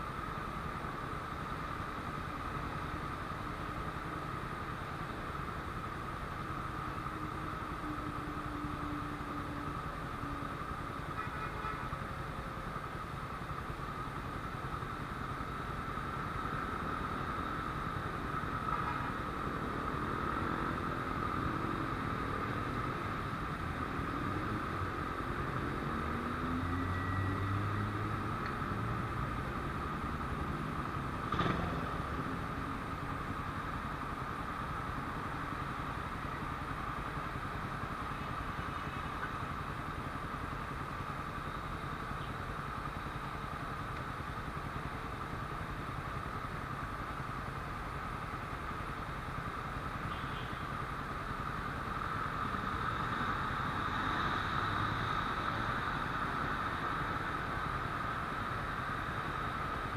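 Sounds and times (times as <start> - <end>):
street traffic noise: 0.0 - 59.9.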